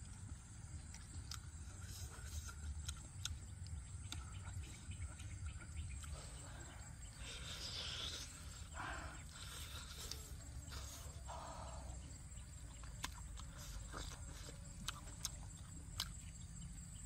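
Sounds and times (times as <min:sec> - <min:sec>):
chewing and lip-smacking: 0:00.0 - 0:17.0.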